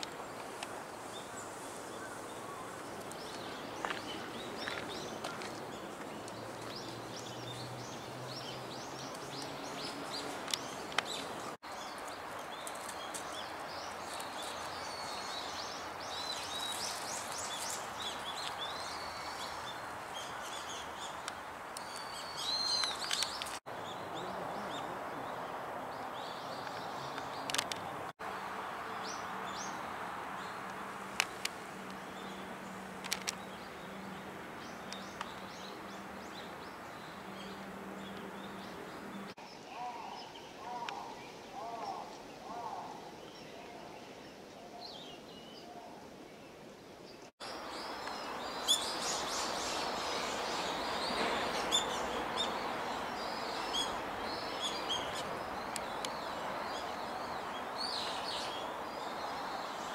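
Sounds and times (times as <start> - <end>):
small birds chirping: 0.0 - 28.1, 28.9 - 45.8, 46.4 - 59.9.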